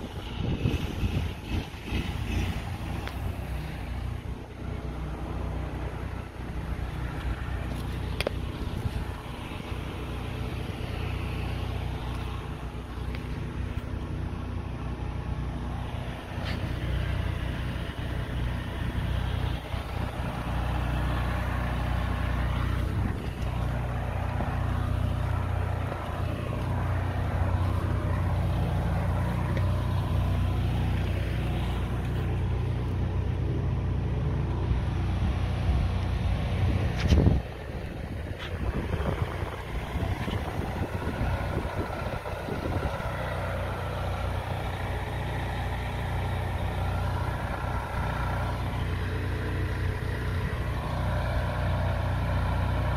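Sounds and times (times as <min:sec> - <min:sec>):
engine running with low hum: 0:00.0 - 0:52.9.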